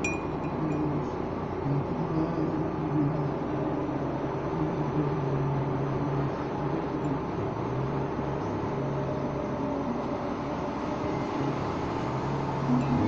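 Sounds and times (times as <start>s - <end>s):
vehicle engine drone and road noise: 0.0s - 13.0s.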